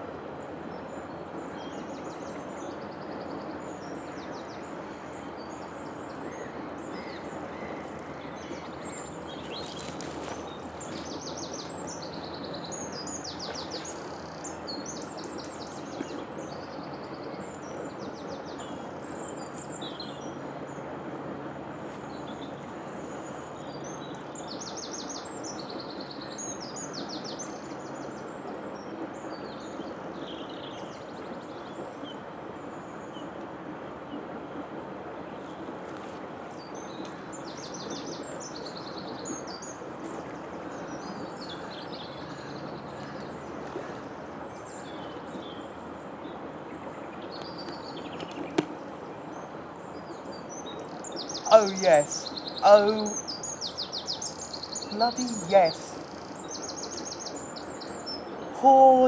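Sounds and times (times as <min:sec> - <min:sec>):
songbirds trilling and chirping: 0:00.0 - 0:59.0.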